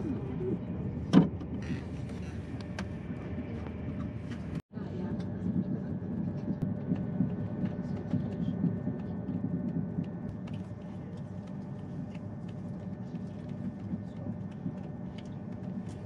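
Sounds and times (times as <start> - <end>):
train interior rumble: 0.0 - 16.0.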